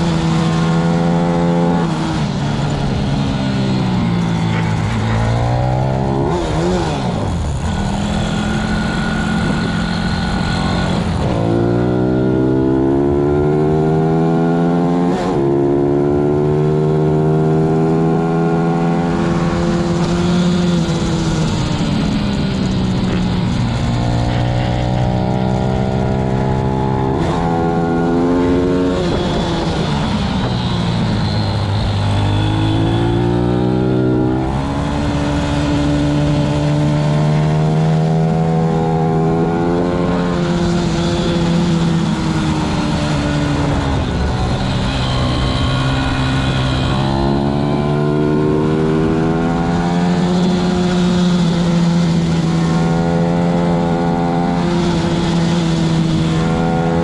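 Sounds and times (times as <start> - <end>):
motorbike engine at racing speed: 0.0 - 57.0.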